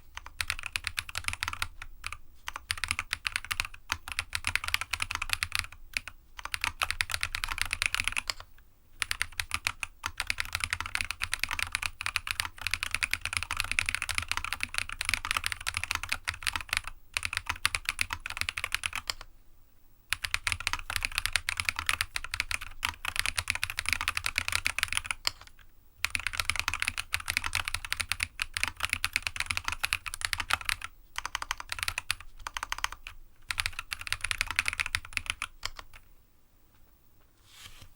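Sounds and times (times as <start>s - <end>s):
mechanical keyboard typing: 0.1s - 19.3s, 20.1s - 36.0s.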